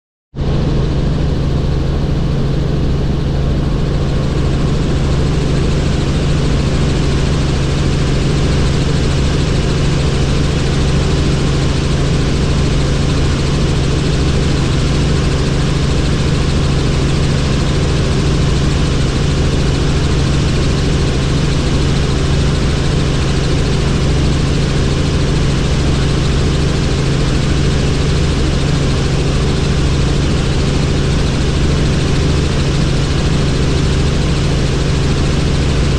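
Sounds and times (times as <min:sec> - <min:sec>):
helicopter engine and rotor: 0:00.4 - 0:35.9.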